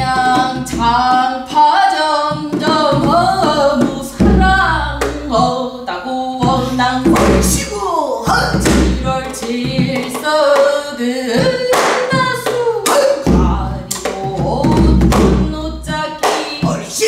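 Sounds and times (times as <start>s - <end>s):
barrel drum raps and booms: 0.0s - 5.6s, 6.4s - 17.0s
person singing sliding lines: 0.0s - 17.0s.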